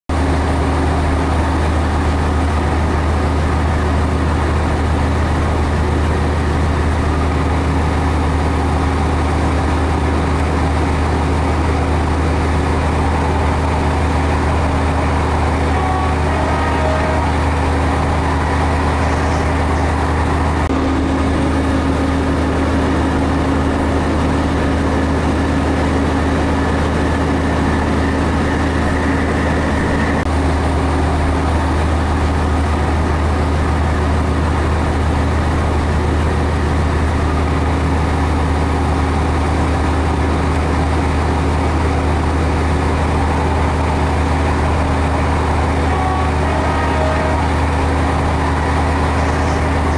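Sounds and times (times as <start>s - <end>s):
train diesel engine droning: 0.1s - 49.9s.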